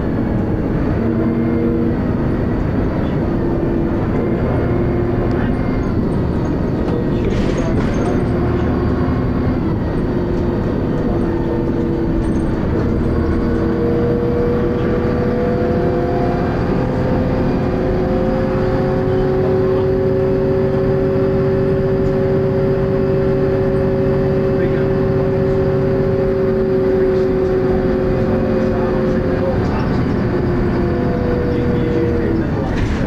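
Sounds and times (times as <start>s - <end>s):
bus engine rumble: 0.0s - 33.0s.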